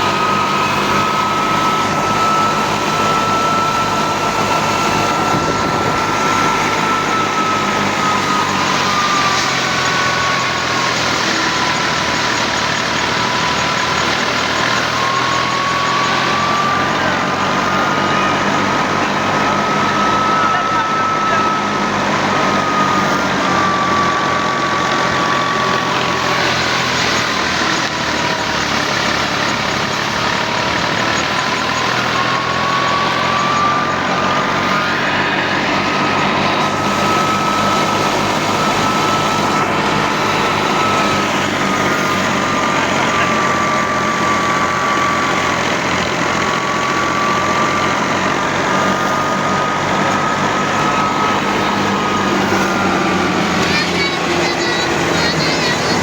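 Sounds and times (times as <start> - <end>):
thresher high whine: 0.0 - 56.0
tractor engine droning: 0.0 - 56.0.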